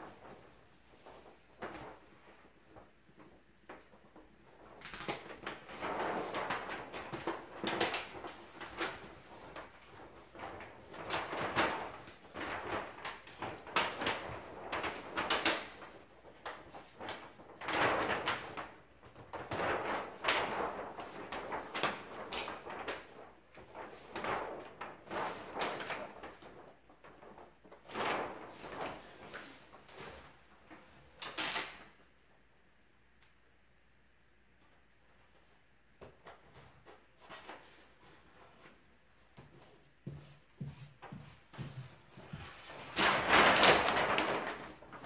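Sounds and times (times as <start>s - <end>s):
wallpaper rustling and crinkling: 0.0s - 32.5s, 34.5s - 45.0s.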